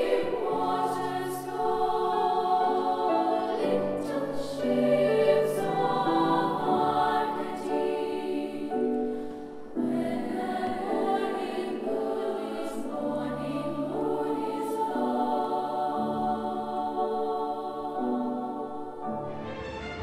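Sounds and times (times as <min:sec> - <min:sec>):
girls' choir singing: 0:00.0 - 0:19.5.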